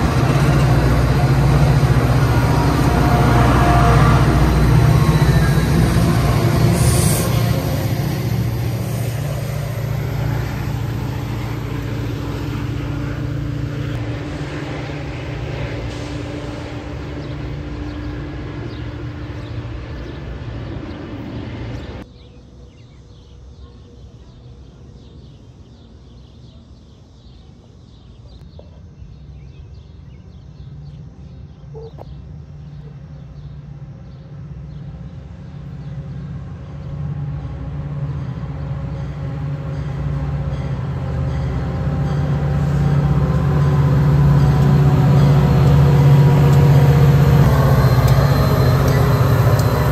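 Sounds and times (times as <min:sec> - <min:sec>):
diesel locomotive engine drone: 0:00.0 - 0:49.9
distant approaching train: 0:00.0 - 0:49.9.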